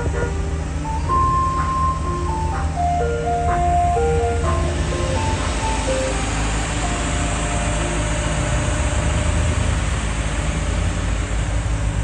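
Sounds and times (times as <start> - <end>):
ice cream truck chime melody: 0.0 - 10.6
vehicle engine and road noise: 0.0 - 12.0.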